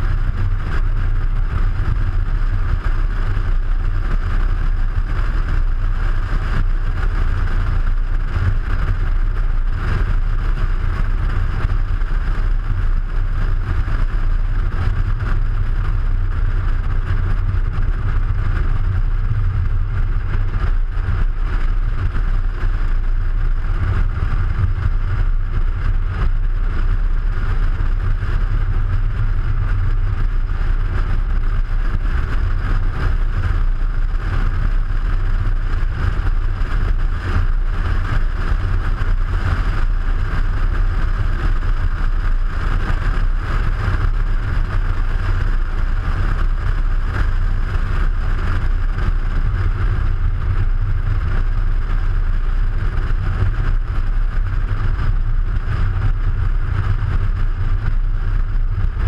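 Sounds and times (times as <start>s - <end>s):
wind and tyre noise: 0.0s - 59.0s.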